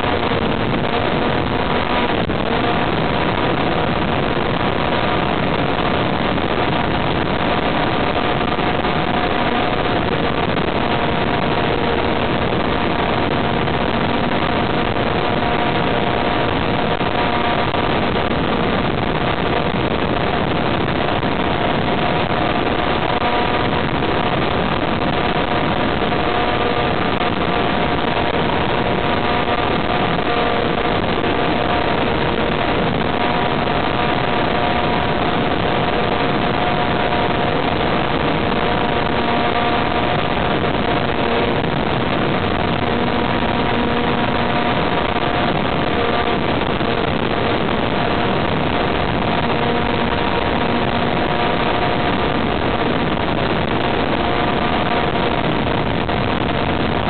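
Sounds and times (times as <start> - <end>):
motor and propeller whine: 0.0 - 57.0
rush of airflow: 0.0 - 57.0.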